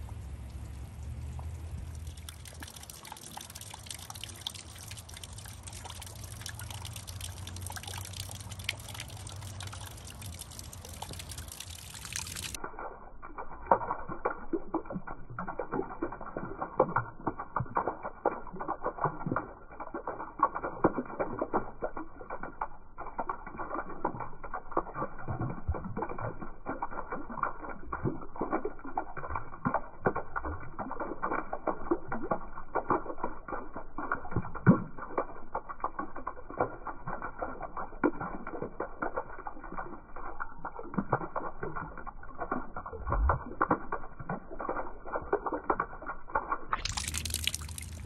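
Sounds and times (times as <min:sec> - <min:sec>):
rain splashing into a puddle: 0:00.0 - 0:48.0.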